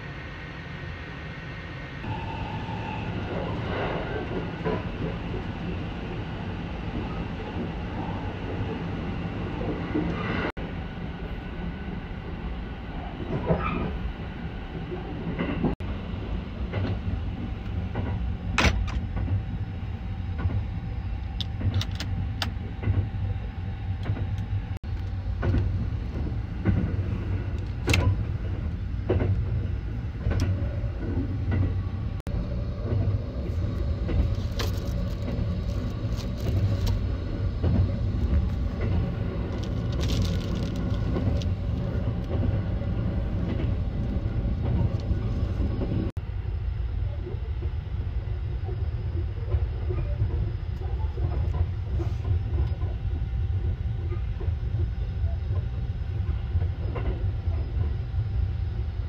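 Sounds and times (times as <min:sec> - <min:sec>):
train rumble and hiss: 0:00.0 - 0:59.0.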